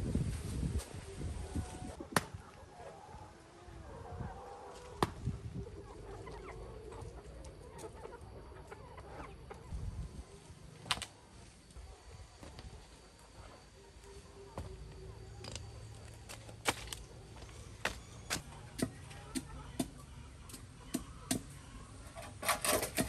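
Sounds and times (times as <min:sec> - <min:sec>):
chickens clucking: 0:00.6 - 0:23.0.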